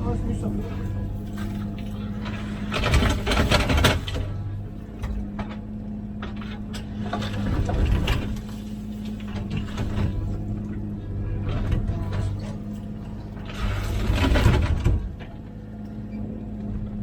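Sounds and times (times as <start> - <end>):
diesel engine running: 0.0 - 17.0
excavator scraping and clattering: 0.0 - 17.0.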